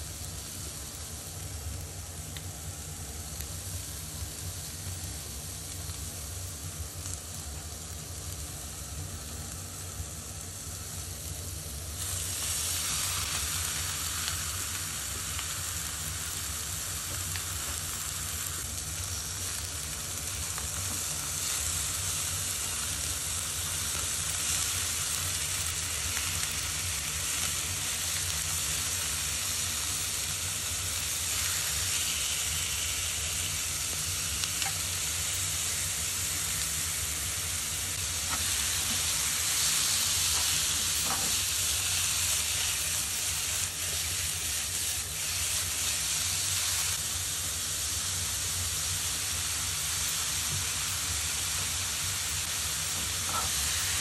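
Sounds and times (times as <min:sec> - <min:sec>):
food sizzling in frying pan: 0:00.0 - 0:54.0.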